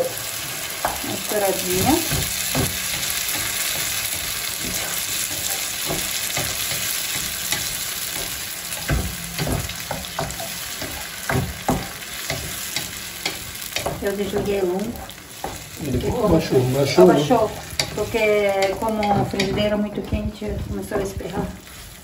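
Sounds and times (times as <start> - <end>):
sauce sizzling and spattering: 0.0 - 19.6, 21.6 - 22.0.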